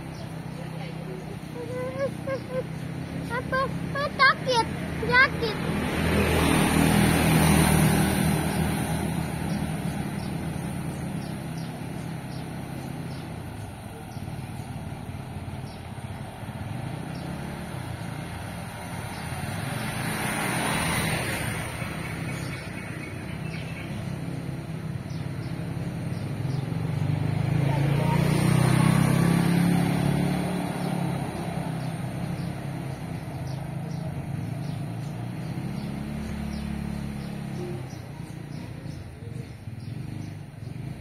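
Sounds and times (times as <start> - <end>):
motorbikes passing: 0.0 - 41.0
vehicle passing: 0.0 - 41.0.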